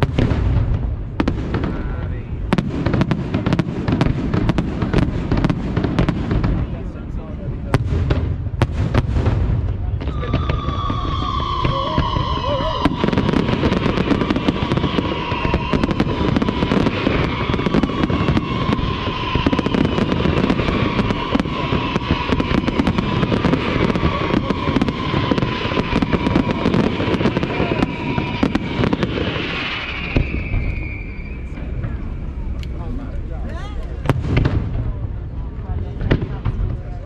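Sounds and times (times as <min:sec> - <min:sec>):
fireworks crackling and popping: 0:00.0 - 0:37.0.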